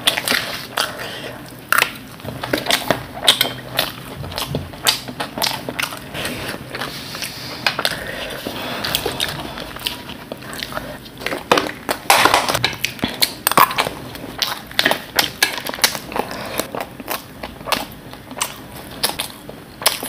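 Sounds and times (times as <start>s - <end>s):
crunching and chewing: 0.0s - 20.0s.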